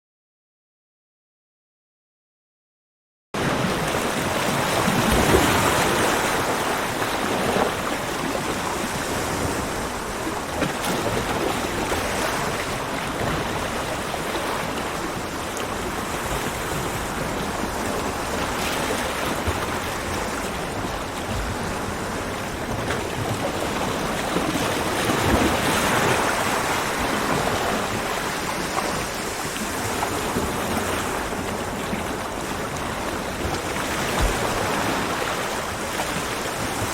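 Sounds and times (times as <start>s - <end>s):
ocean waves breaking on beach: 3.4s - 36.9s.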